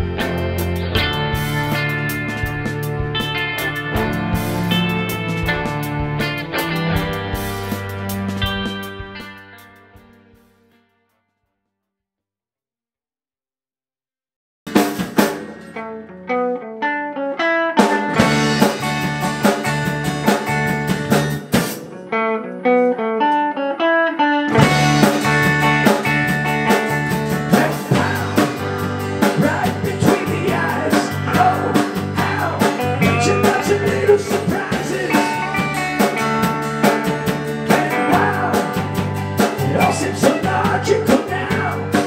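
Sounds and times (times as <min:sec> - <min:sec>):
guitar picking single notes: 0:00.0 - 0:10.3, 0:15.4 - 0:42.0
rock band playing: 0:00.0 - 0:10.8, 0:14.7 - 0:42.0.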